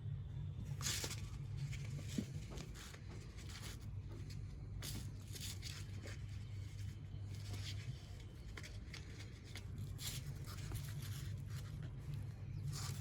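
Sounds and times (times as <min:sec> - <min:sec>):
kitten scratching rubber sandal: 0:00.8 - 0:13.0.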